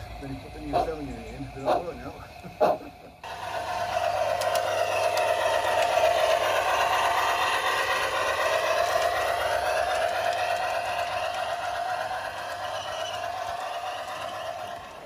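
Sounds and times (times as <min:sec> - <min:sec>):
electric motor whirring: 0:00.0 - 0:15.0
wheels rolling on rails: 0:00.0 - 0:15.0.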